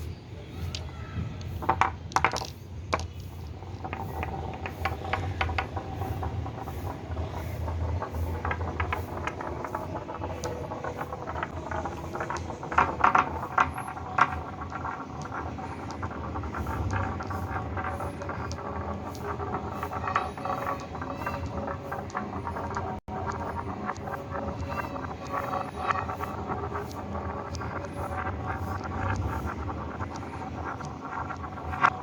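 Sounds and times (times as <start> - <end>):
marbles clicking together: 0.0 - 32.0
marbles rolling on track: 0.0 - 32.0.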